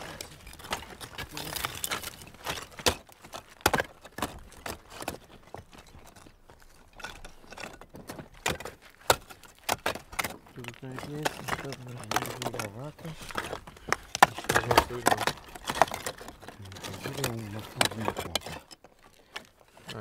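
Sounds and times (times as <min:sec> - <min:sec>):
rubble scraping and rattling: 0:00.0 - 0:20.0
stones knocking together: 0:00.0 - 0:20.0.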